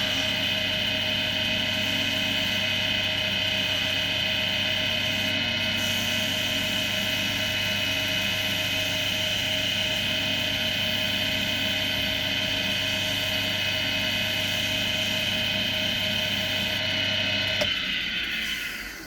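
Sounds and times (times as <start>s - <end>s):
wood lathe motor hum and whine: 0.0s - 19.0s.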